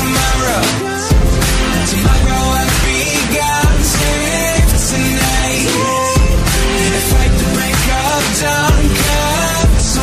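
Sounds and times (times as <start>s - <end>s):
pop song with steady beat: 0.0s - 10.0s.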